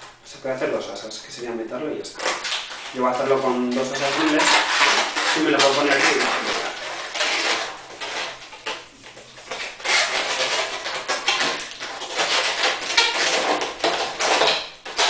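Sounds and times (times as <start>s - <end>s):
balloon squeaking and rubbing: 0.6s - 15.0s.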